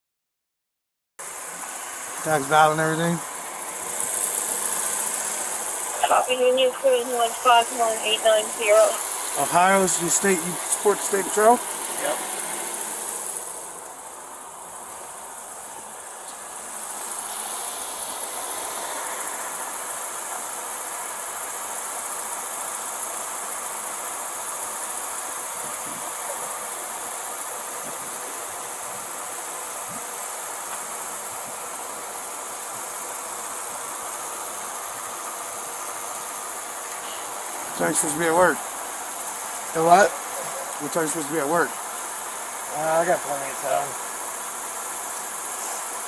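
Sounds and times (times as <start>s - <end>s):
high-pitched hiss: 1.2s - 46.0s.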